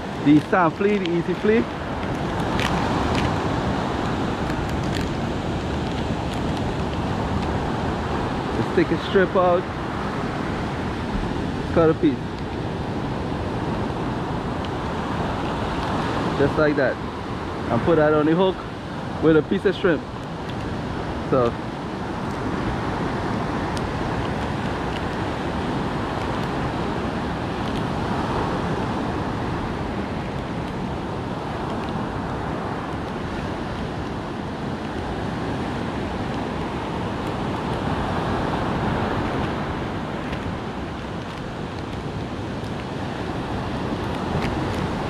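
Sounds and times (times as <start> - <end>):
surf washing up a beach: 0.0 - 45.0
wind rumbling on microphone: 0.0 - 45.0.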